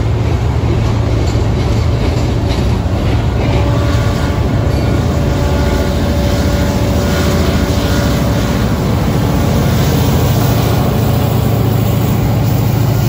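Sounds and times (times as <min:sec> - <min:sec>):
diesel locomotive engine rumble: 0:00.0 - 0:13.0
train wheels rumbling on rails: 0:00.0 - 0:13.0.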